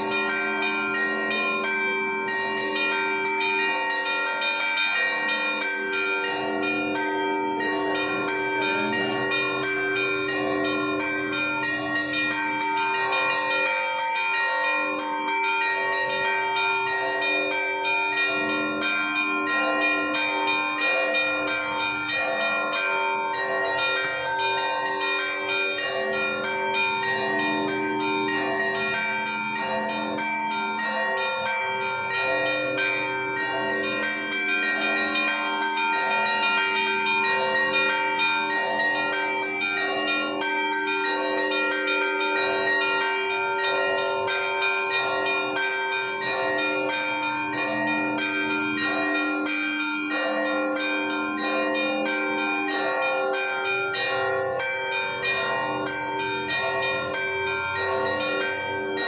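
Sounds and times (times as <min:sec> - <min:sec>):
large bells ringing: 0:00.0 - 0:59.0.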